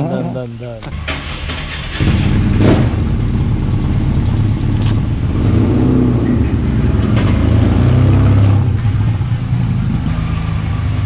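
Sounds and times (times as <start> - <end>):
motorcycle engine running at low revs: 2.0 - 11.0.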